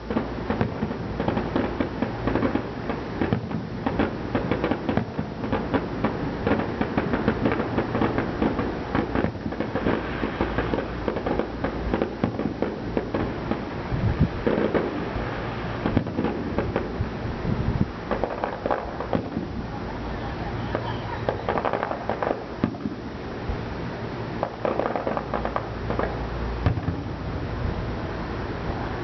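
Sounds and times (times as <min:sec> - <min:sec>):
fireworks booms and crackle: 0:00.0 - 0:27.8.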